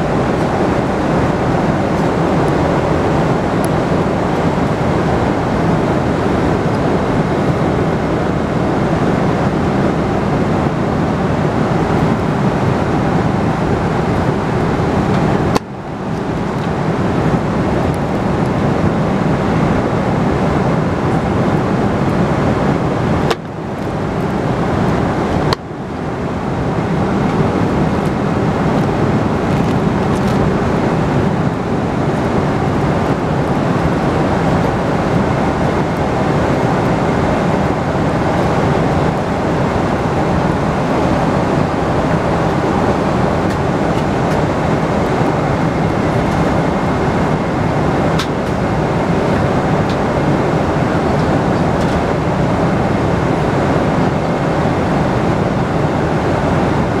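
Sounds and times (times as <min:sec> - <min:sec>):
airliner cabin air rush and drone: 0:00.0 - 0:57.0.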